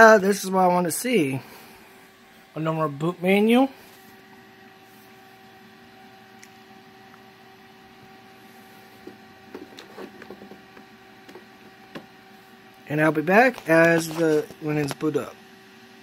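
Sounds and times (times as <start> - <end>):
computer fan hum: 0.0 - 16.0.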